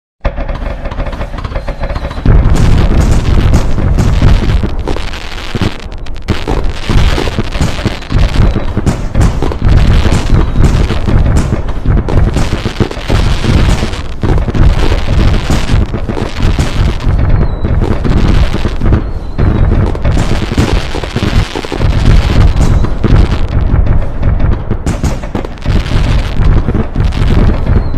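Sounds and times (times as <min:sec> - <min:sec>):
fireworks booming and crackling: 0:00.2 - 0:27.9.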